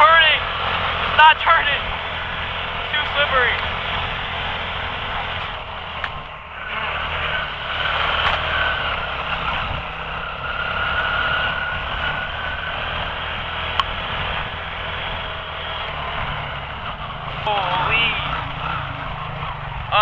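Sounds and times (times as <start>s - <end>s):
quad engine running: 0.0s - 20.0s.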